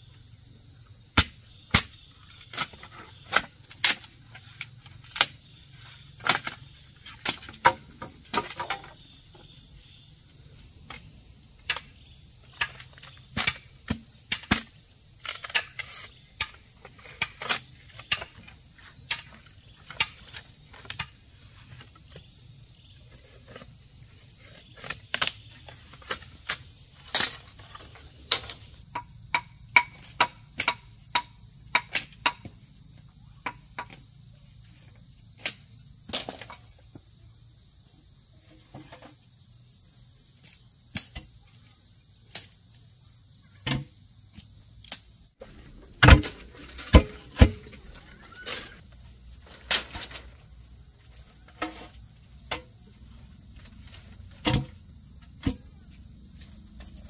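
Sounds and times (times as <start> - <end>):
insects shrilling: 0.0 - 36.8, 44.6 - 57.0.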